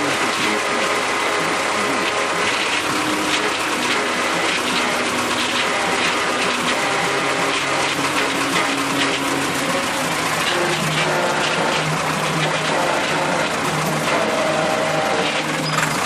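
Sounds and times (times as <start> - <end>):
loud mechanical wash: 0.0 - 16.0
tractor engine running: 0.0 - 16.0.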